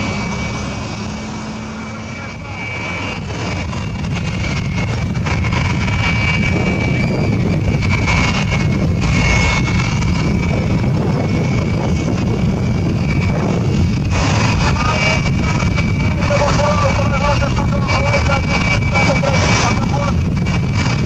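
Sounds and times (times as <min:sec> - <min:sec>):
faint high whine: 0:00.0 - 0:20.2
loud engine rumble: 0:00.0 - 0:21.0.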